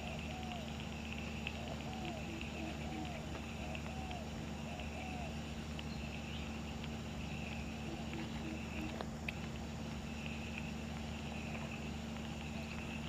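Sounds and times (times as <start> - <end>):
insects chirping: 0.0 - 13.0
steady low hum: 0.0 - 13.0.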